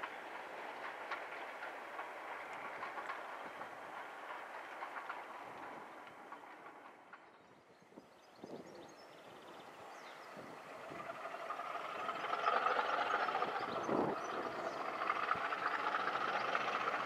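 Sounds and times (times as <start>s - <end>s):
train wheels clicking over rail joints: 0.0s - 17.0s.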